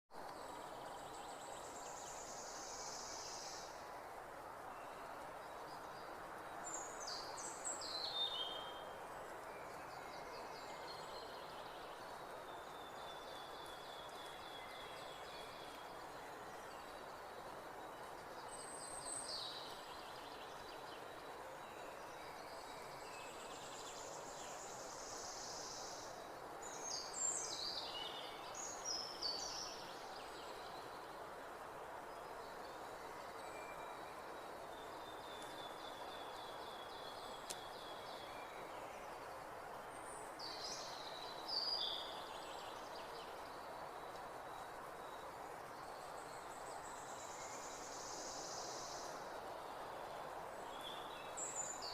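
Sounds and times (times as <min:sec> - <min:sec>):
steady background hiss: 0:00.2 - 0:51.9.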